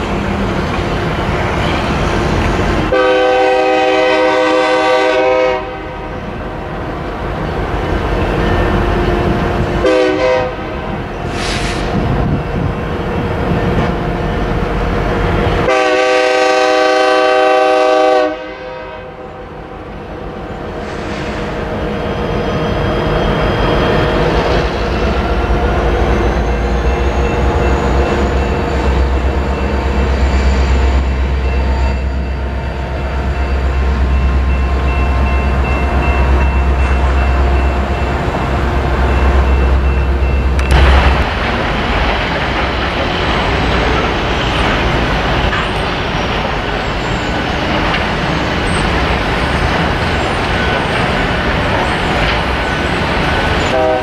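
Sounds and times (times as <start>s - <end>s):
diesel locomotive engines rumbling: 0.0s - 54.0s
railcar wheels rolling on rails: 0.0s - 54.0s.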